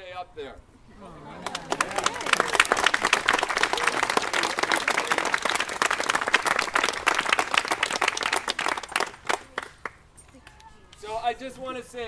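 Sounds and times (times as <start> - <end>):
crowd clapping: 1.3 - 11.1.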